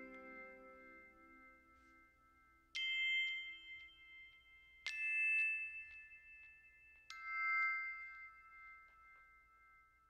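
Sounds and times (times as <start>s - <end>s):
bright bell-like dings: 0.0s - 10.0s.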